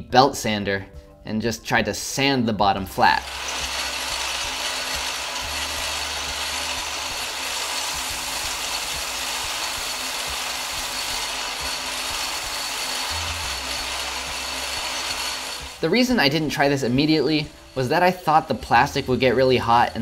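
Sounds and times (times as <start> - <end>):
belt sander grinding plastic: 3.2 - 20.0.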